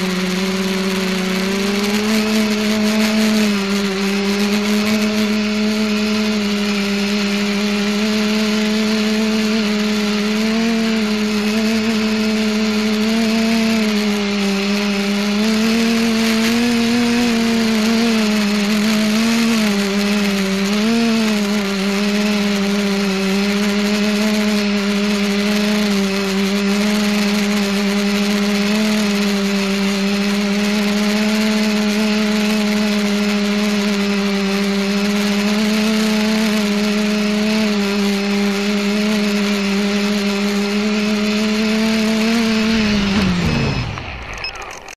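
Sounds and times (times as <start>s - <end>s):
drone motors buzzing: 0.0s - 44.9s.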